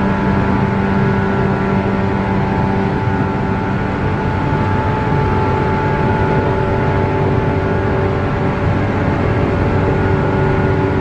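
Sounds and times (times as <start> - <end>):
wheels rumbling on rail: 0.0 - 11.0.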